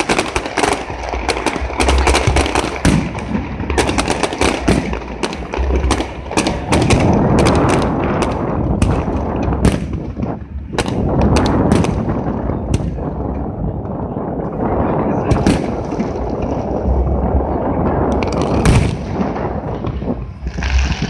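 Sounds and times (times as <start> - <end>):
deep fireworks booms: 0.0 - 21.0
fireworks bangs and crackling: 0.0 - 21.0.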